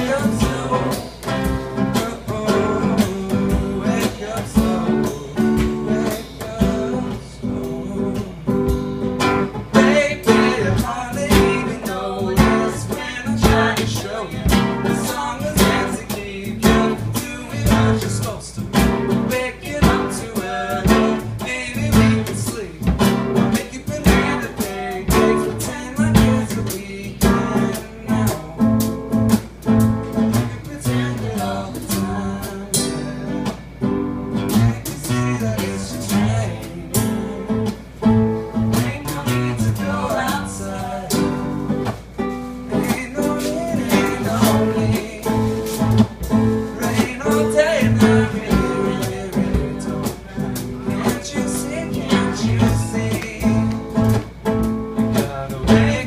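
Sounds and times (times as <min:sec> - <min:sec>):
woman and man singing: 0:00.0 - 0:29.5, 0:30.1 - 0:33.7, 0:34.4 - 0:56.0
drum kit steady beat: 0:00.0 - 0:56.0
strummed acoustic guitar: 0:00.0 - 0:56.0.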